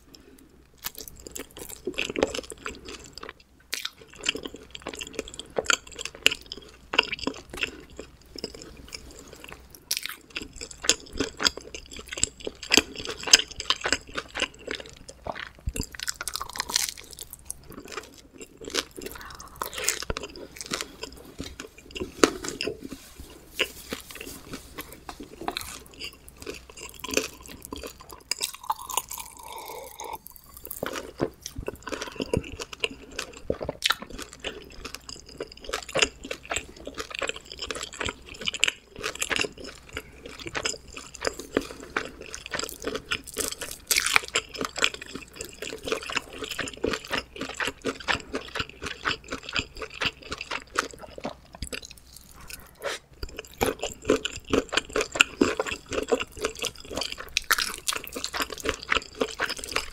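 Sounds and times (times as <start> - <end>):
chewing with mouth clicks and smacks: 0.0 - 59.9.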